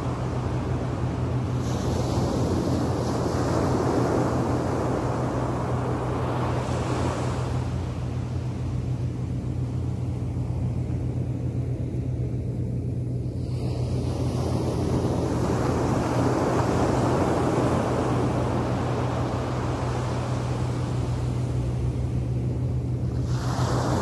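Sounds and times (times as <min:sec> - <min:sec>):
steady low hum: 0:00.0 - 0:24.0
waves washing onto beach: 0:00.0 - 0:24.0.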